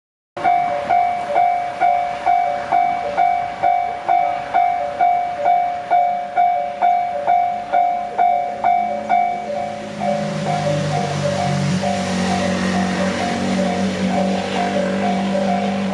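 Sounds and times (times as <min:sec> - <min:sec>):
level crossing warning bell: 0:00.4 - 0:15.9.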